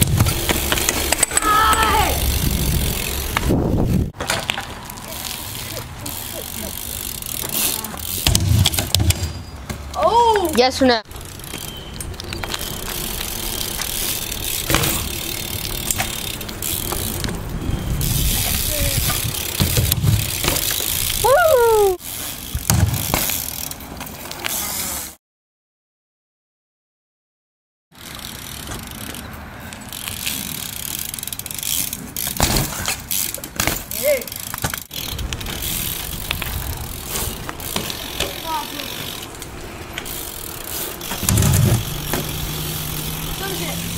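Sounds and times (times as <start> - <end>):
bike clicks and knocks: 0.0 - 21.6, 22.4 - 24.7, 28.0 - 43.9
bike tyres rumbling on asphalt: 0.0 - 25.2, 27.9 - 43.9.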